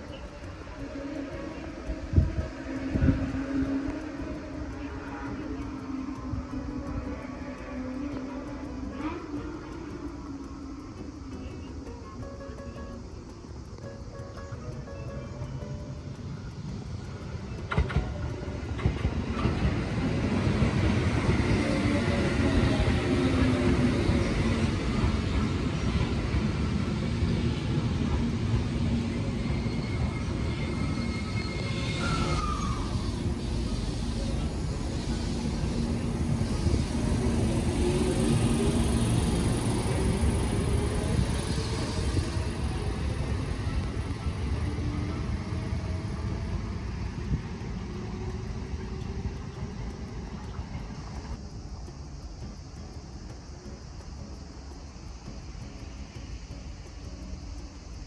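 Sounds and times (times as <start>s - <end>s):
electric train rumble: 0.0s - 58.0s
train motor whine: 0.0s - 58.0s.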